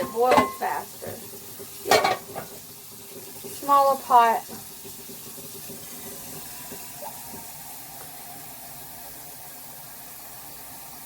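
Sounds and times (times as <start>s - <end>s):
tap water filling a pot: 0.0s - 11.0s.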